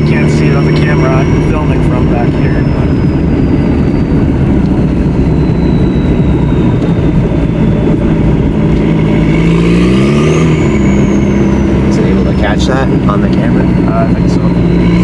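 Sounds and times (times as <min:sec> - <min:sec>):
diesel car engine drone: 0:00.0 - 0:15.0.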